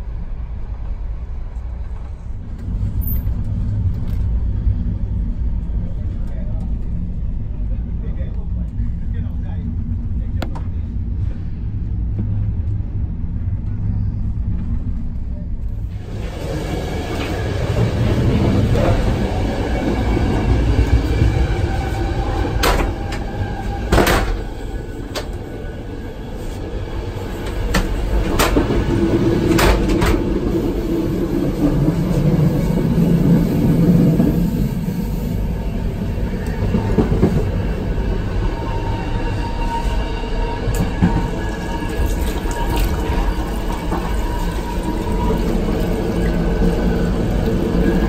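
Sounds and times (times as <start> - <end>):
train rumbling on rails: 0.0 - 48.0.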